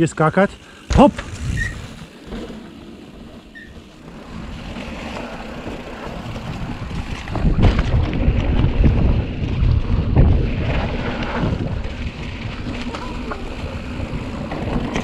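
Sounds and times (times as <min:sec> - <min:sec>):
bike rattling: 0:00.0 - 0:15.0
bike tyres on leafy trail: 0:00.0 - 0:15.0
wind buffeting microphone: 0:00.9 - 0:02.2, 0:04.0 - 0:15.0.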